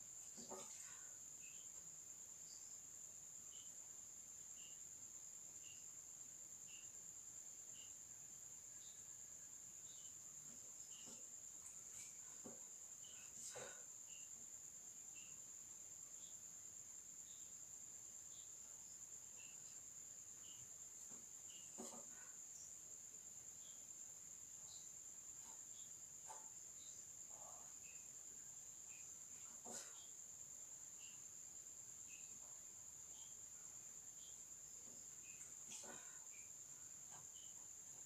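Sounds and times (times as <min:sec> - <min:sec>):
faint high-pitched whine: 0:00.0 - 0:38.0.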